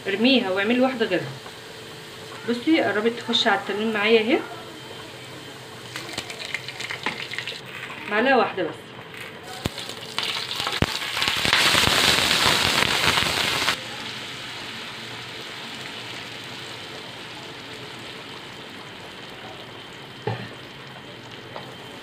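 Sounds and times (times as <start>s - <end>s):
oil and garlic sizzling: 0.0s - 8.4s, 9.0s - 22.0s.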